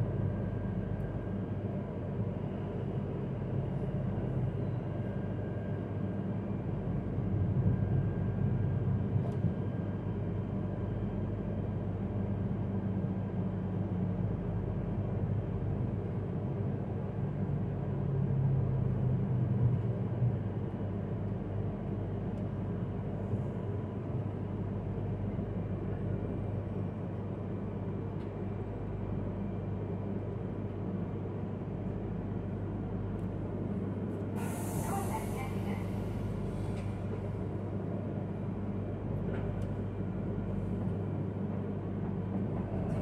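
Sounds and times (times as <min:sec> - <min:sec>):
train interior rumble: 0:00.0 - 0:43.0.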